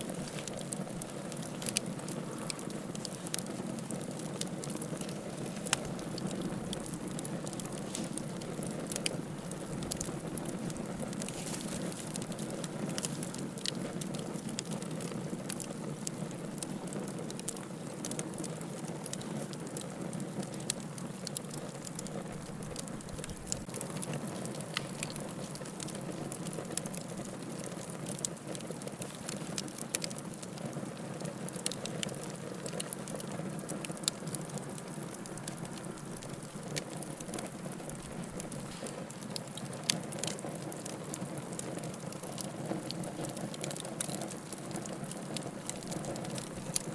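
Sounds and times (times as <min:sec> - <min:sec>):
firewood crackling and popping: 0:00.0 - 0:46.9
rush of flames: 0:00.0 - 0:46.9.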